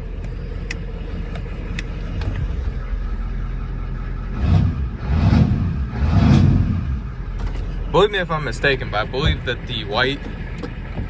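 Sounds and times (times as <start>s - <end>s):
diesel engine idling and revving: 0.0s - 11.0s.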